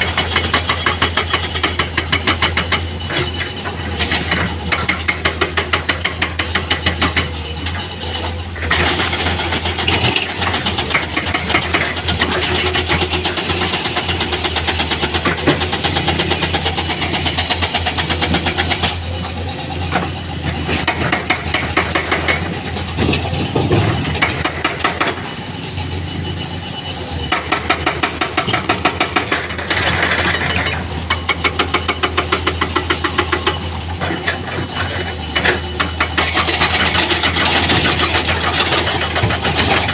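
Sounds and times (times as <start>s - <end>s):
heavy diesel engine clattering: 0.0s - 39.9s.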